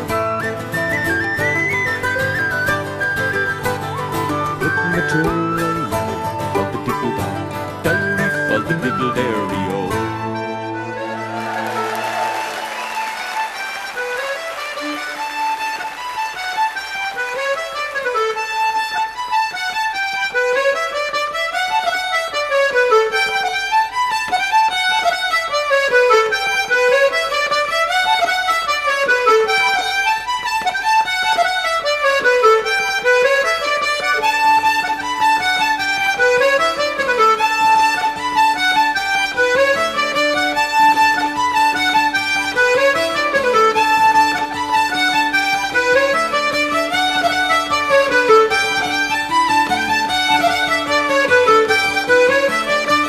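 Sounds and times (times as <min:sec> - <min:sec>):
fast traditional folk melody: 0:00.0 - 0:53.0.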